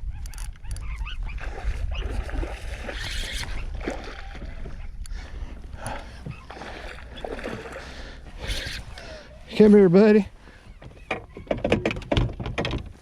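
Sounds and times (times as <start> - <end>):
water splashing around a kayak: 0.9 - 13.0.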